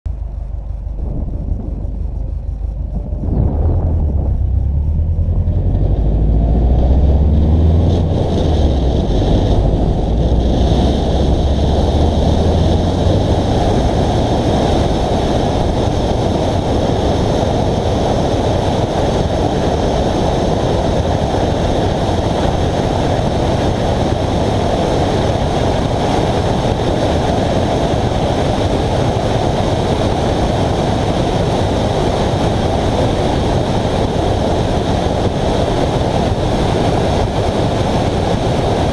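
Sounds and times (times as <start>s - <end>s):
deep engine rumble: 0.0s - 38.9s
wind buffeting microphone: 0.1s - 38.9s.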